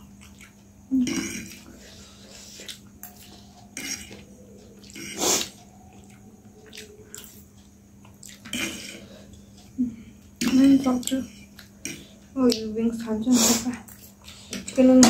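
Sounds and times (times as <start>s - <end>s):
chewing: 0.0s - 13.2s, 13.8s - 14.9s
faint steady hum: 0.0s - 15.0s.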